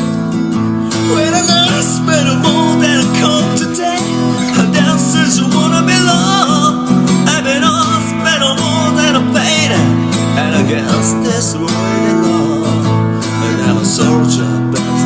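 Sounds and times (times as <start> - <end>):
acoustic guitar strumming: 0.0 - 15.0
man singing: 0.9 - 15.0.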